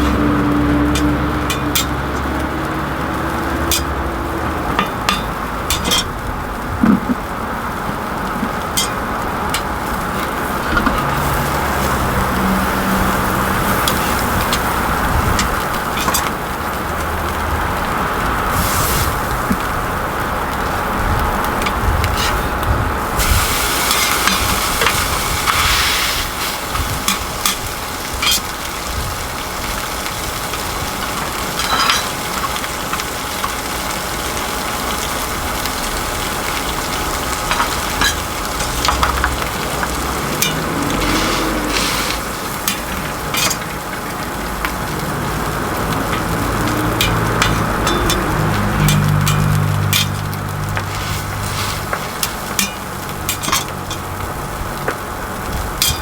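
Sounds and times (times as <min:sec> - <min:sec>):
food sizzling on a griddle: 0:00.0 - 0:56.0.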